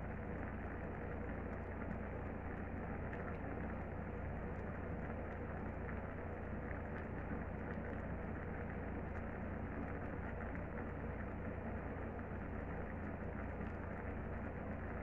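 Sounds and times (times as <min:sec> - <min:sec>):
faint ticks: 0:00.1 - 0:15.0.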